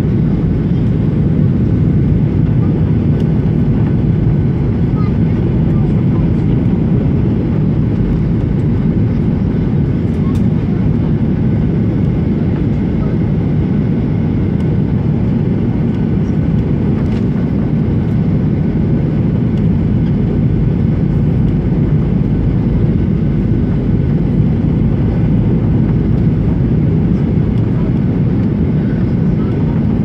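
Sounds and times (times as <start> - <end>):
jet cabin engine rumble: 0.0 - 30.0.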